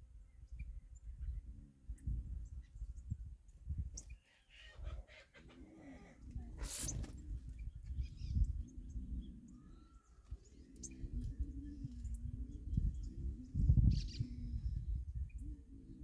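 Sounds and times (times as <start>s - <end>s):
wild birds chirping: 0.2s - 16.0s.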